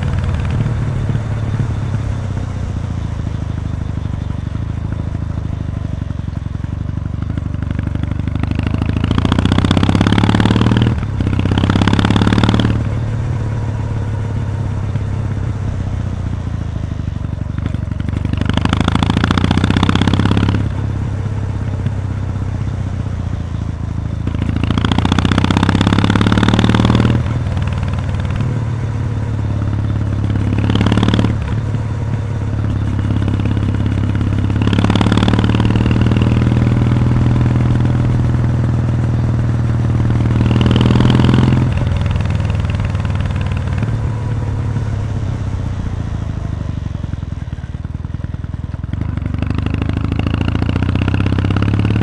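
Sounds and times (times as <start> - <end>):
motorcycle exhaust drone: 0.0 - 52.0.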